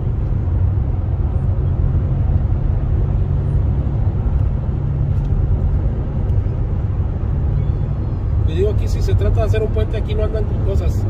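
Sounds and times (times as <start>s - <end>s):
car driving on freeway: 0.0s - 11.0s.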